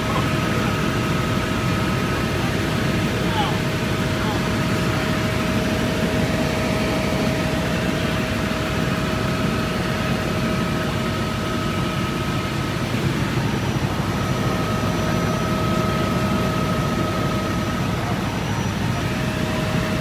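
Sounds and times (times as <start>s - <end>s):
helicopter engine and rotors drone: 0.0s - 20.0s
thin steady whine: 0.0s - 20.0s.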